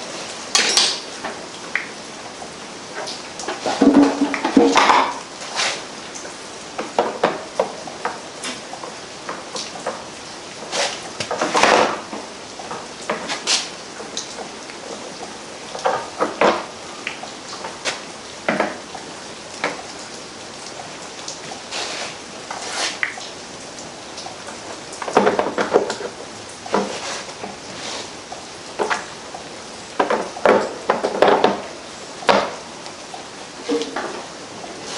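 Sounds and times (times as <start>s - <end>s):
steady hiss: 0.0s - 34.9s.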